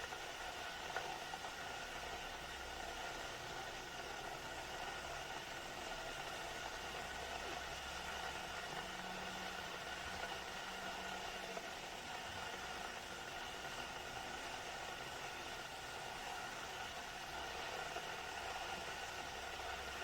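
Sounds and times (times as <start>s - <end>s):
electric kettle heating water: 0.0s - 20.0s.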